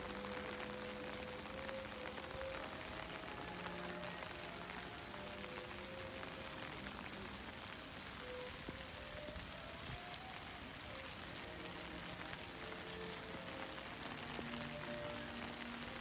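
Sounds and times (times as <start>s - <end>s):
faint background music: 0.0s - 16.0s
light rain hissing: 0.0s - 16.0s
raindrops ticking: 0.0s - 16.0s.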